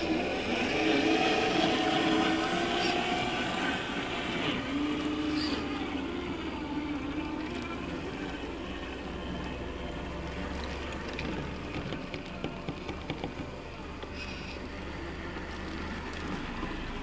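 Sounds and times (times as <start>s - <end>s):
rc truck drivetrain hum: 0.0s - 17.0s.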